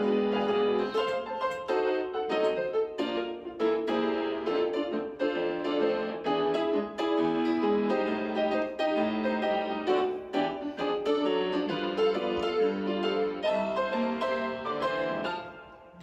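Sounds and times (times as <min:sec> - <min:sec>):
piano notes quickly struck: 0:00.0 - 0:16.0.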